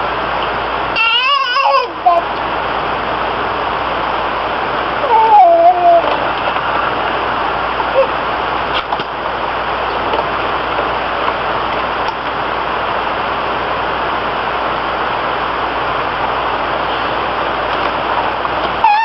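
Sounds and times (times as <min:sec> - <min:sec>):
loud steady rushing noise: 0:00.0 - 0:19.0.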